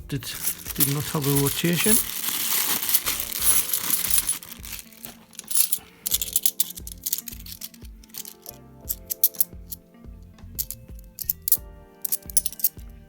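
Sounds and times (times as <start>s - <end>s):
background music with a beat: 0.0s - 13.0s
coins clattering and clinking: 0.3s - 9.7s, 10.6s - 12.8s.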